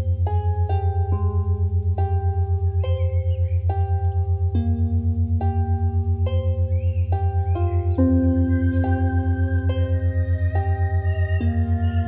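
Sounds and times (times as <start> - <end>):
pulsing low hum: 0.0 - 12.0
ringing bell-like notes: 0.0 - 12.0.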